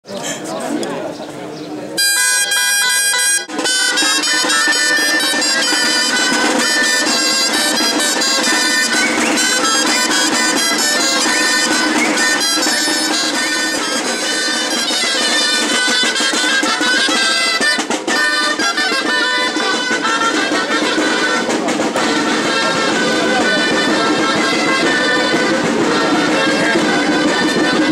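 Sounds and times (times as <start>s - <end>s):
shawms playing a tune: 2.0s - 27.9s
snare and bass drum beats: 2.0s - 27.9s.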